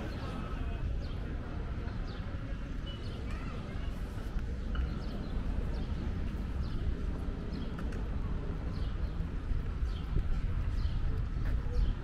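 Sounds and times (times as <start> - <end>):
low rumble of street noise: 0.0 - 12.0
small birds chirping: 1.9 - 12.0.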